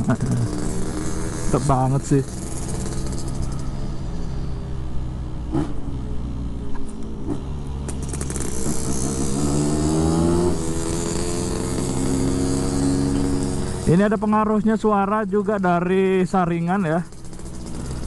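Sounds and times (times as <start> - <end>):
two-stroke motorcycle engine: 0.0 - 18.0.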